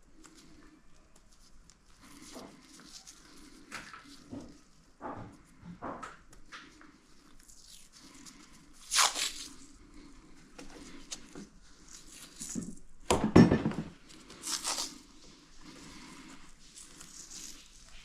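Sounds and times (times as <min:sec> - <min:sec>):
scrapes and rustles of handling: 0:00.0 - 0:13.0, 0:13.7 - 0:18.0.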